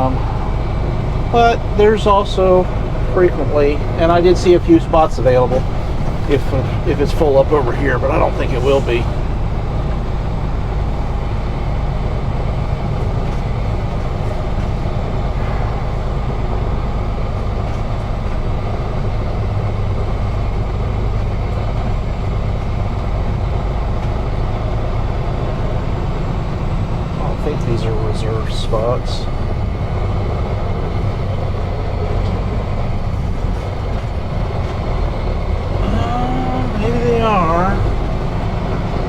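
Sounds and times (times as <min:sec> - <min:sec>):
diesel truck engine rumbling: 0:00.0 - 0:39.0.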